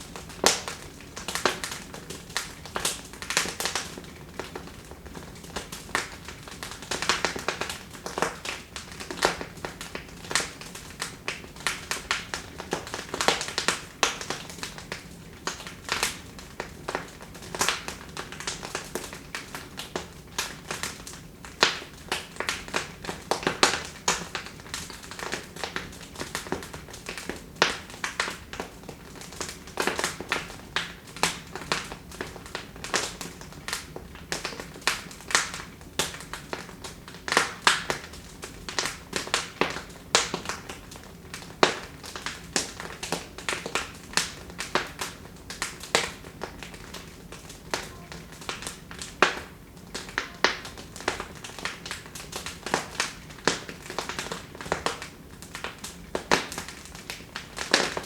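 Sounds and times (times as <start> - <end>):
soft hiss of burning: 0.0 - 58.0
wood fire crackling and popping: 0.0 - 58.0.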